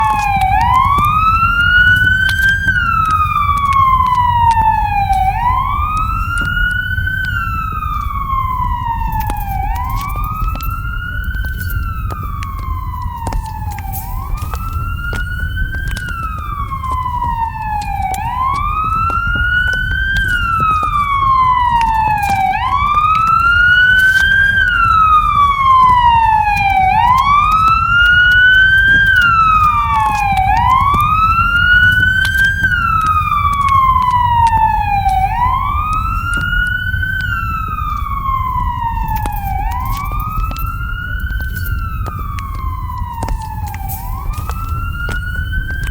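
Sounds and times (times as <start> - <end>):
fire engine siren wailing: 0.0 - 45.9
sharp cracks: 0.0 - 45.9
steady low rumble: 0.0 - 45.9.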